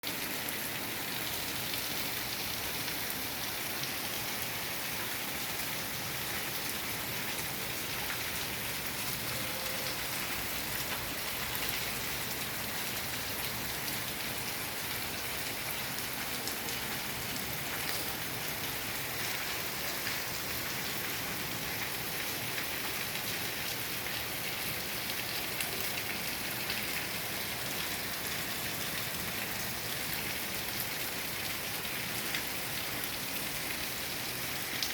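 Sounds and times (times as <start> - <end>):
heavy rain on hard surfaces: 0.0 - 34.9.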